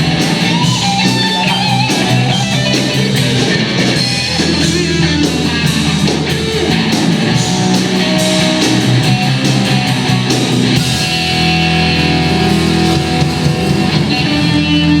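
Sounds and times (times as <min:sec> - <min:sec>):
drums: 0:00.0 - 0:15.0
electric guitar: 0:00.0 - 0:15.0.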